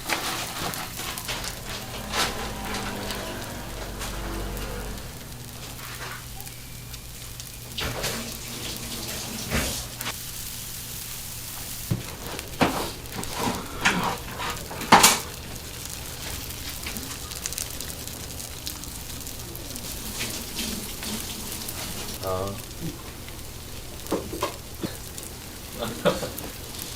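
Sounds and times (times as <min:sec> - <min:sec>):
batter sizzling: 0:00.0 - 0:26.9.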